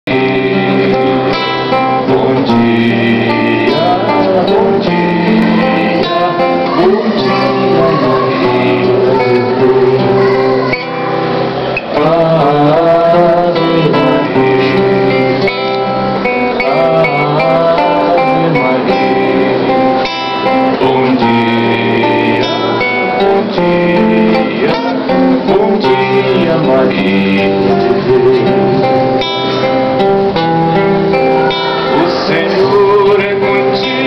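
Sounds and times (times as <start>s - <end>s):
classical guitar: 0.0s - 34.0s
man singing: 0.0s - 34.0s.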